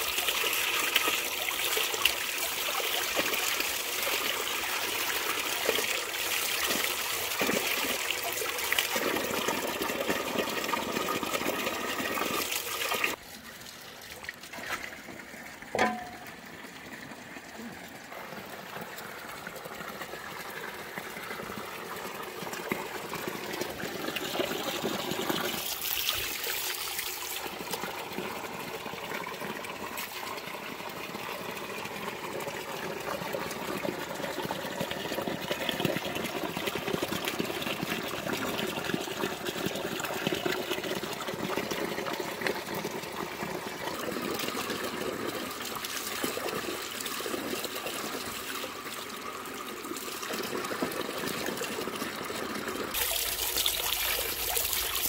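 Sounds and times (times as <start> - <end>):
running water trickling and splashing: 0.0 - 55.0.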